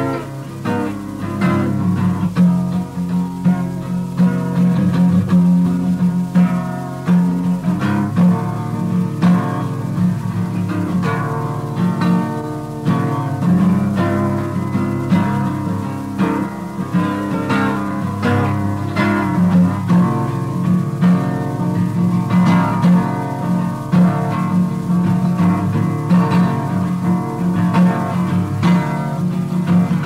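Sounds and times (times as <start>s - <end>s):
fingerpicked acoustic guitar: 0.0s - 30.0s.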